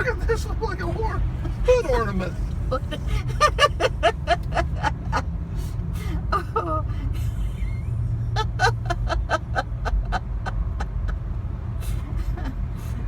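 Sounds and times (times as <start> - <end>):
road and engine rumble in car: 0.0 - 13.0.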